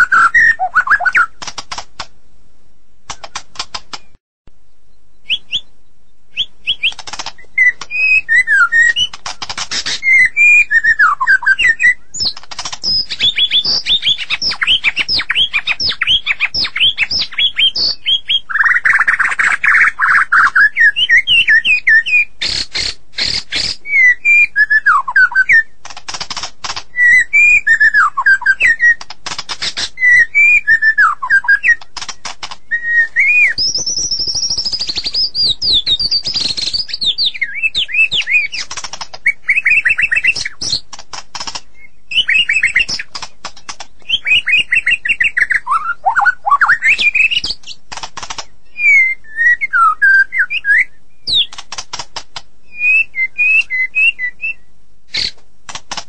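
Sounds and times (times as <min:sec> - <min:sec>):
bird singing: 0:00.0 - 0:01.4, 0:03.1 - 0:25.8, 0:26.8 - 0:51.6, 0:52.7 - 0:55.4
sharp bird clicks: 0:00.0 - 0:02.2, 0:03.0 - 0:04.2, 0:06.3 - 0:56.0.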